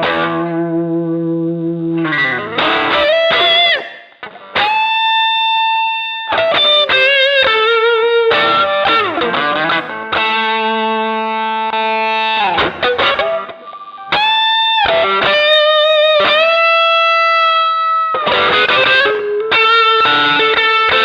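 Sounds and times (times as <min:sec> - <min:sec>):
clean electric guitar: 0:00.0 - 0:21.0.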